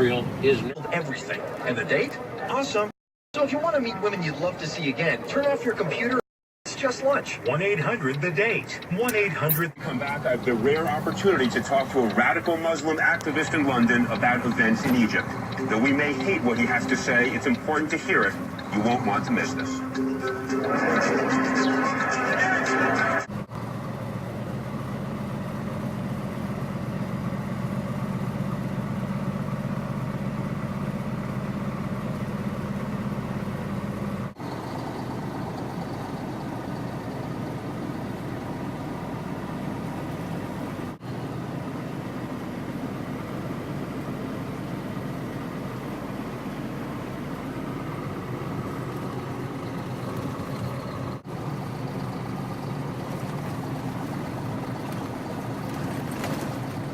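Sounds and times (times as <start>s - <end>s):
truck engine and road noise: 0.0s - 56.9s.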